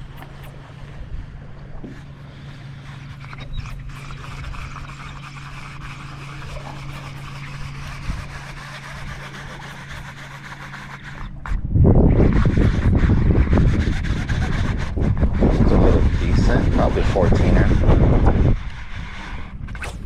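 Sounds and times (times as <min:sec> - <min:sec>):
boat motor humming: 0:00.0 - 0:20.0
water noise: 0:00.0 - 0:20.0
wind: 0:00.0 - 0:20.0.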